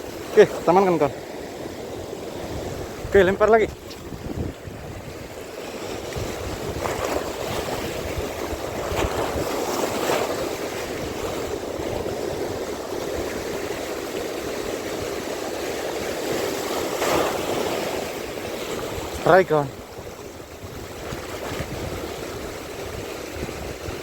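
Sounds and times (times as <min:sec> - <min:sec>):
waves washing: 0:00.0 - 0:24.0
wind on microphone: 0:00.0 - 0:24.0.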